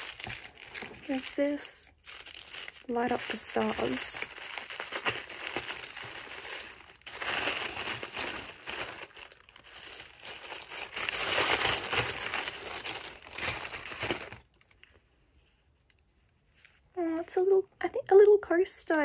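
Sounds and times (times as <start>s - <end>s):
tissue paper crinkling: 0.0s - 15.6s.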